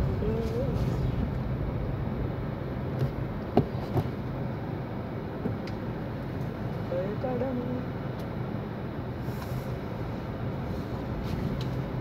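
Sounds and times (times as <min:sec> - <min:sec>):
car cabin low rumble: 0:00.0 - 0:12.0.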